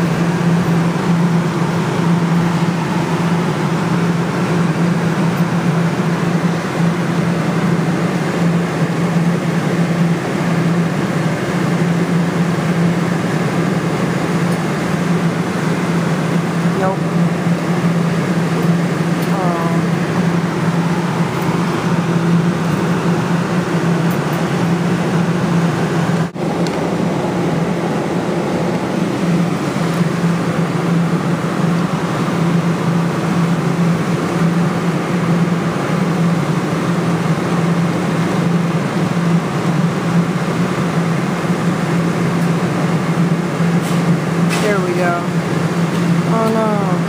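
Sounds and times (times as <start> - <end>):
droning machine hum: 0.0 - 47.0
machine and room hiss: 0.0 - 47.0.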